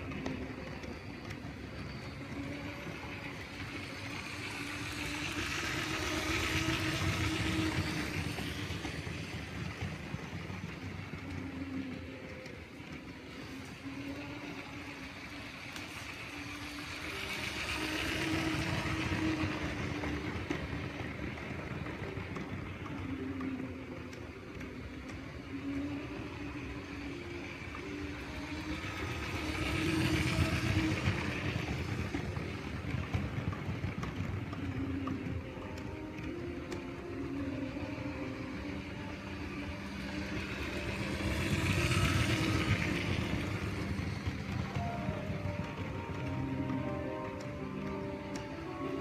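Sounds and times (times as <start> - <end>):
toy train motor hum: 0.0 - 35.5, 36.2 - 46.8.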